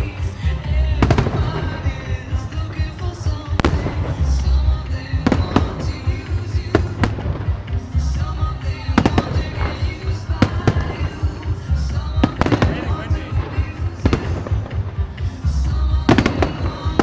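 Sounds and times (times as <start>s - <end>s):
continuous low rumble: 0.0s - 17.0s
fireworks bursting: 0.0s - 17.0s
music playing: 0.0s - 17.0s.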